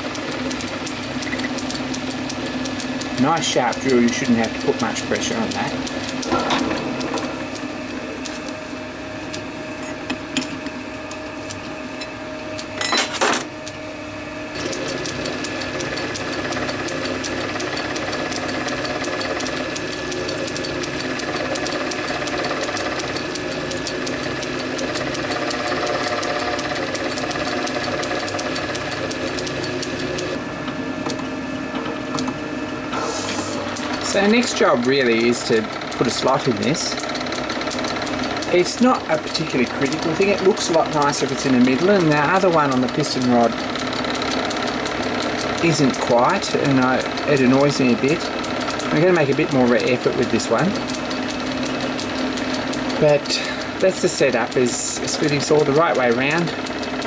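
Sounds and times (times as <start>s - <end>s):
metal lathe running: 0.0s - 57.0s.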